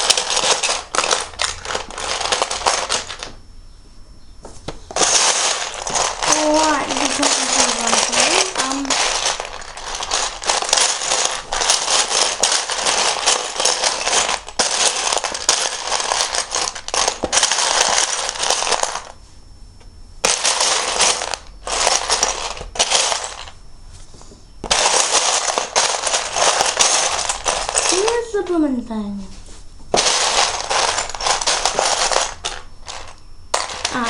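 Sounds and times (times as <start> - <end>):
plastic bricks rattling and clicking: 0.0 - 3.4, 4.9 - 19.2, 20.2 - 23.6, 24.6 - 28.4, 30.0 - 34.0.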